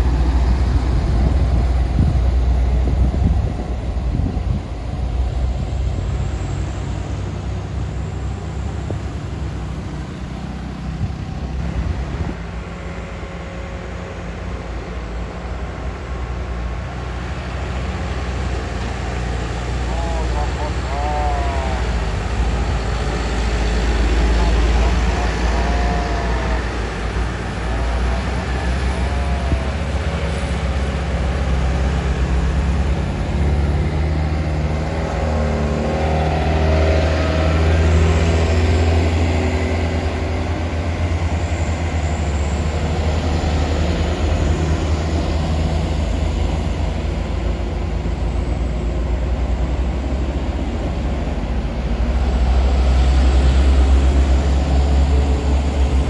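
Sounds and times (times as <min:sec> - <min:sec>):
heavy truck engine under load: 0:00.0 - 0:56.0.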